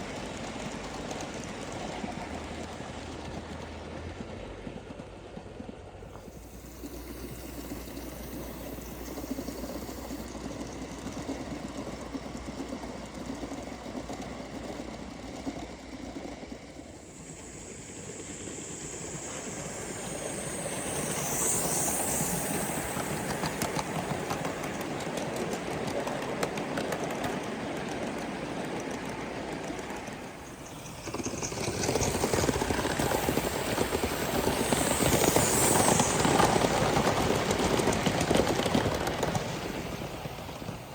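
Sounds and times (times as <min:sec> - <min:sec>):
model steam locomotive running: 0:00.0 - 0:40.9.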